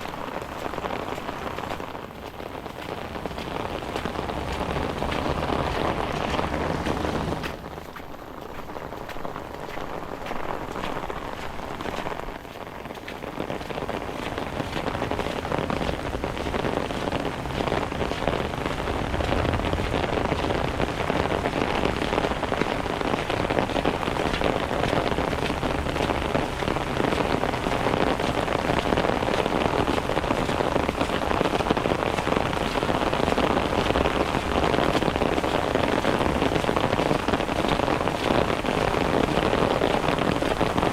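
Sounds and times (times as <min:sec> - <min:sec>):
rain on hard surfaces: 0:00.0 - 0:40.9.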